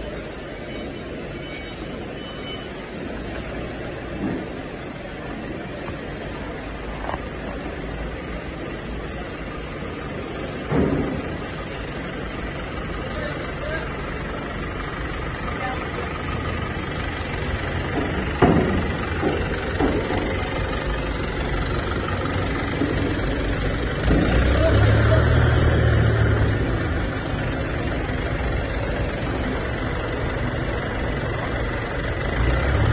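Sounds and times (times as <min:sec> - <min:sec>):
forklift engine idling: 0:00.0 - 0:32.9.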